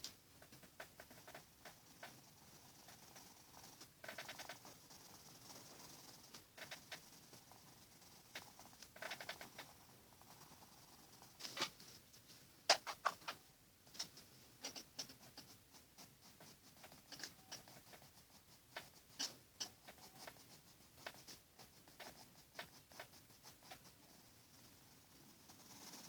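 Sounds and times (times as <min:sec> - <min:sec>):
pencils scratching on paper: 0:00.4 - 0:12.0, 0:14.0 - 0:26.0.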